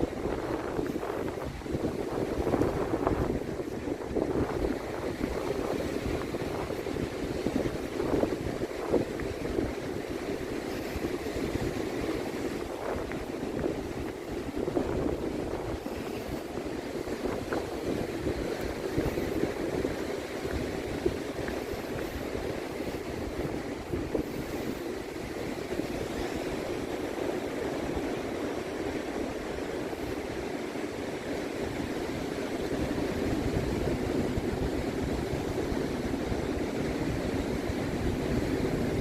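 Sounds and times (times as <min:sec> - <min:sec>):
sea surf rushing: 0:00.0 - 0:39.0
wind buffeting microphone: 0:00.0 - 0:39.0.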